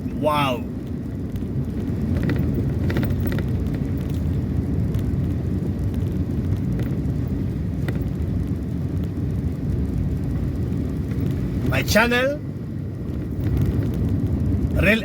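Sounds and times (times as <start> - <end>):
vehicle driving on road: 0.0 - 15.0.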